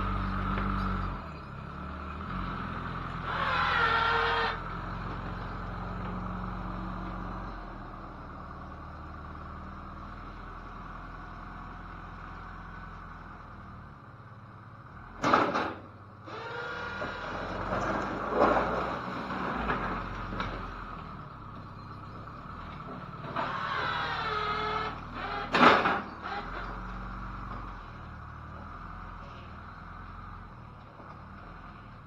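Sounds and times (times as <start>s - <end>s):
vehicle engine running: 0.0s - 15.2s, 15.8s - 32.0s.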